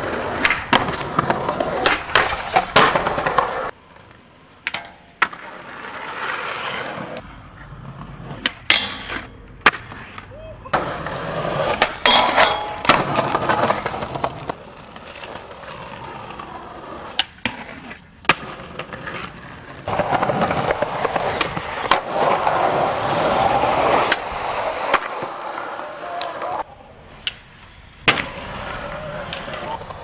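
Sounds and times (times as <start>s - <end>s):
skateboard tail clacking: 0.0s - 30.0s
skateboard wheels rolling on concrete: 0.0s - 30.0s.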